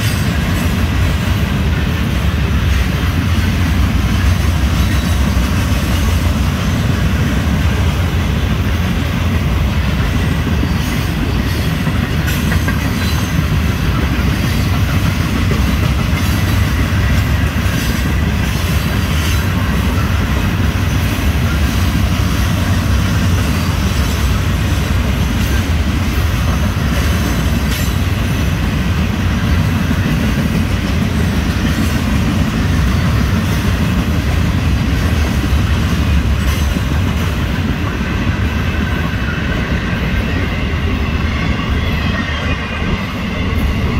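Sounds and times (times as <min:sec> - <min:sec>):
rumble of train wheels on rail: 0:00.0 - 0:43.9.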